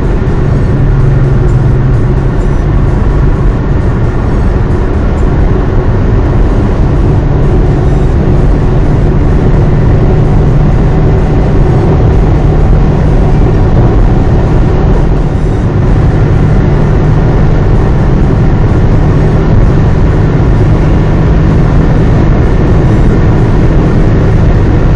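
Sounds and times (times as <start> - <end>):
car road and engine noise: 0.0 - 24.9.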